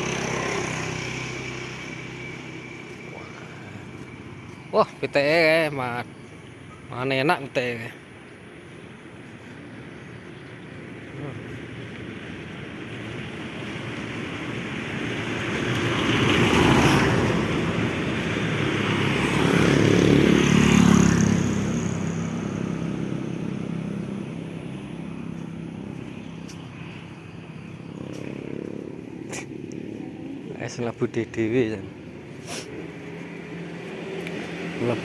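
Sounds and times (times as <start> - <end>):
vehicles passing on road: 0.0 - 35.0.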